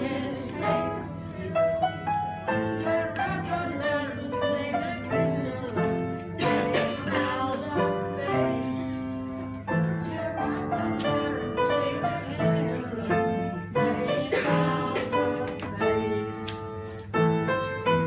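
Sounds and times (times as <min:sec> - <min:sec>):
piano chords and notes: 0:00.0 - 0:18.0.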